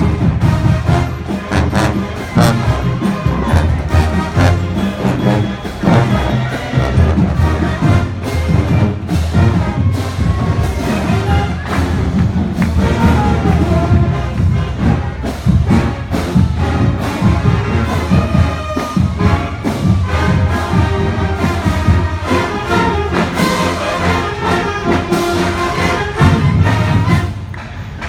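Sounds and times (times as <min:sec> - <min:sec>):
marching band playing: 0:00.0 - 0:28.0.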